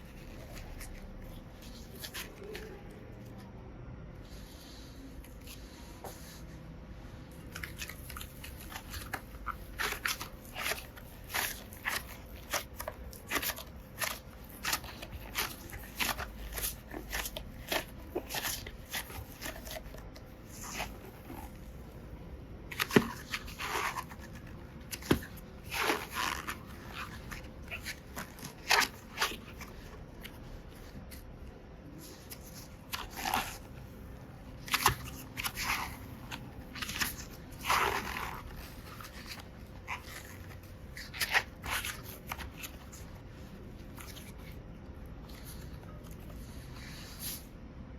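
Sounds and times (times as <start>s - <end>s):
slime squelching: 0.0s - 3.5s, 7.1s - 47.5s.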